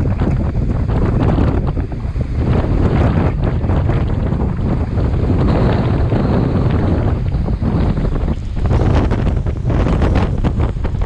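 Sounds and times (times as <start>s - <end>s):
rough surf: 0.0s - 11.0s
wind buffeting microphone: 0.0s - 11.0s.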